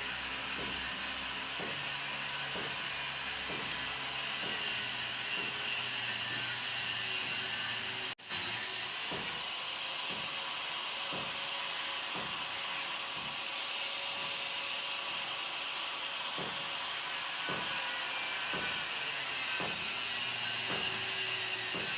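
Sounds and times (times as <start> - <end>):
angle grinder cutting metal rod: 0.0 - 21.9.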